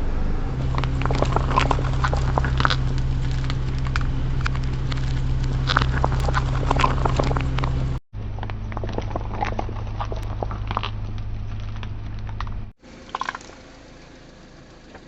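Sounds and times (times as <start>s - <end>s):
car engine humming: 0.0s - 15.0s
objects crunching under tyres: 0.4s - 13.7s.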